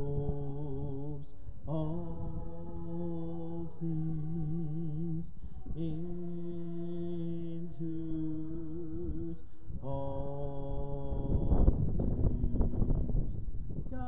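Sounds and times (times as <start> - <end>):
man singing worship song: 0.0 - 14.0.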